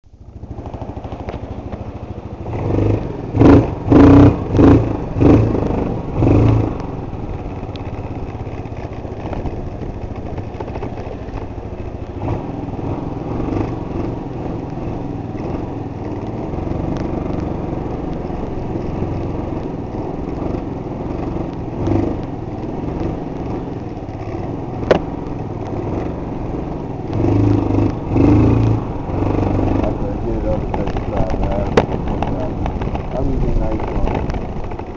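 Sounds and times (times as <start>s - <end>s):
scooter engine revving: 0.2s - 34.9s.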